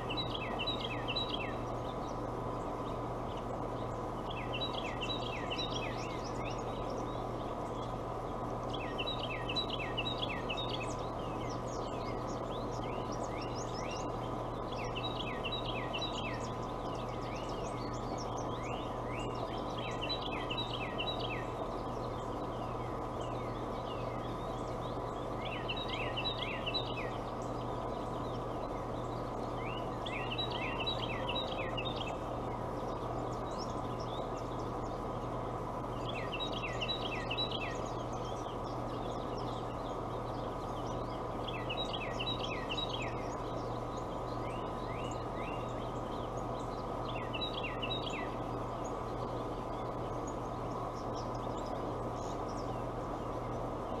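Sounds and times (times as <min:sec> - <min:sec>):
songbird singing: 0:00.0 - 0:54.0
steady background hum: 0:00.0 - 0:54.0.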